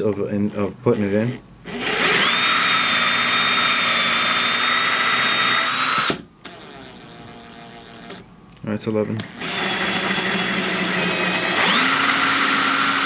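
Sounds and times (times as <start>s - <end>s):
drill boring through plastic: 1.2s - 8.2s, 9.2s - 13.0s.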